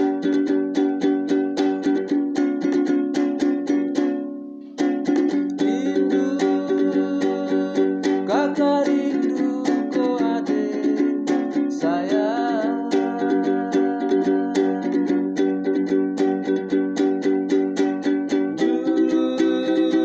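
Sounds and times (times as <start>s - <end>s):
strummed acoustic string chords: 0.0s - 20.0s.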